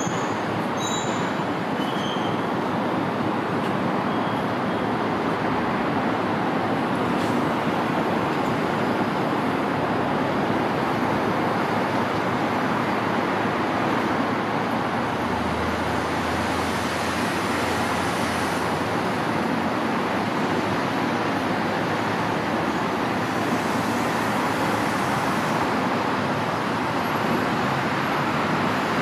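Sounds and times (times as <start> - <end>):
road traffic rushing: 0.0 - 29.0.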